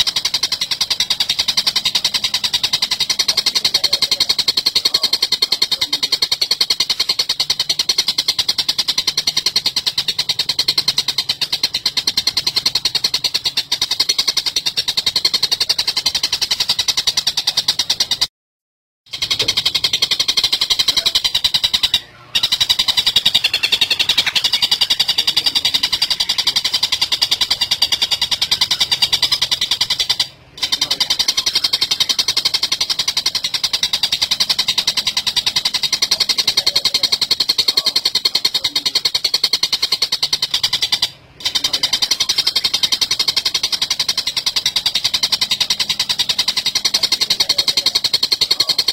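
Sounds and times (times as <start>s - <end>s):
bird calling in harsh chatter: 0.0s - 18.3s, 19.1s - 48.9s.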